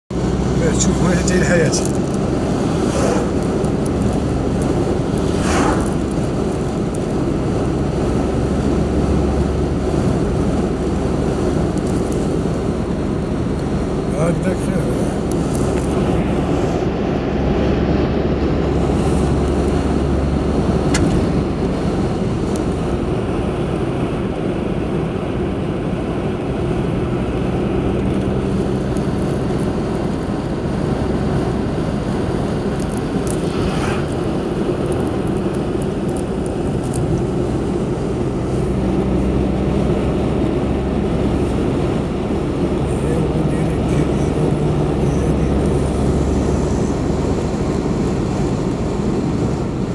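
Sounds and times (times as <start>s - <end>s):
car cabin road and engine noise: 0.1s - 49.9s.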